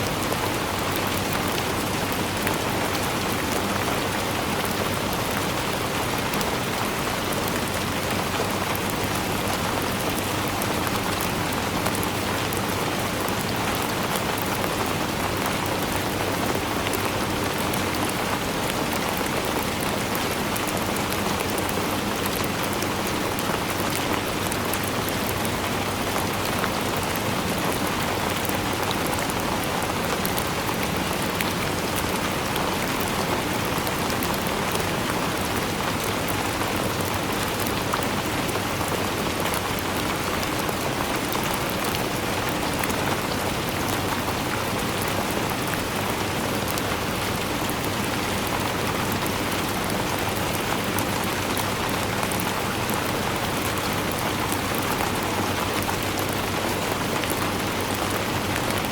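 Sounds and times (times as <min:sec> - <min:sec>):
steady rainfall: 0:00.0 - 0:58.9.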